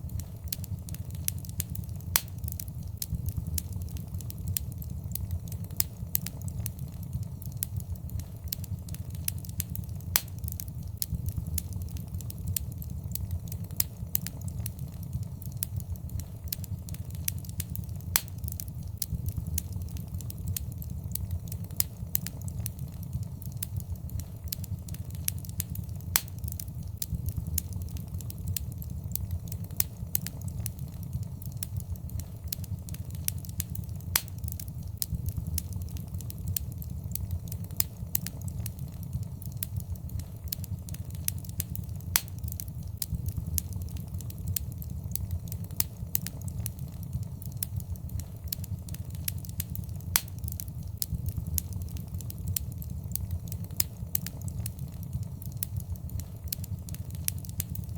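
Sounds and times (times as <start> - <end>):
fire crackling: 0.0 - 57.9
flames rumbling: 0.0 - 57.9.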